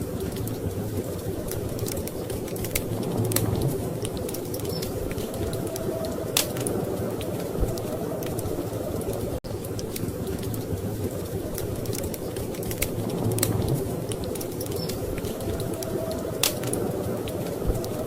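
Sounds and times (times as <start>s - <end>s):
wood fire crackling in fireplace: 0.0s - 18.0s.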